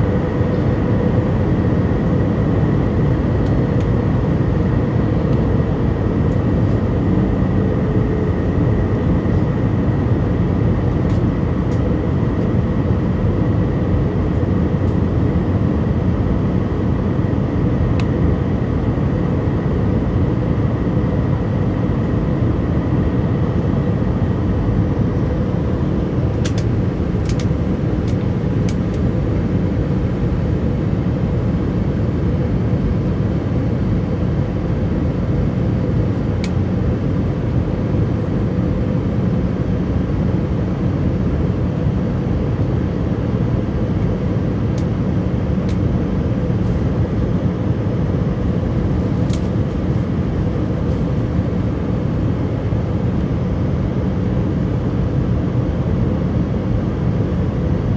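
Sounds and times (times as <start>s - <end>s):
faint steady hum: 0.0s - 57.9s
jet engines in cabin: 0.0s - 57.9s.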